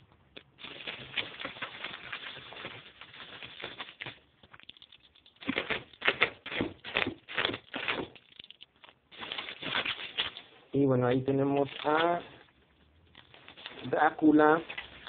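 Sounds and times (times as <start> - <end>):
bubble wrap crinkling: 0.3 - 15.0.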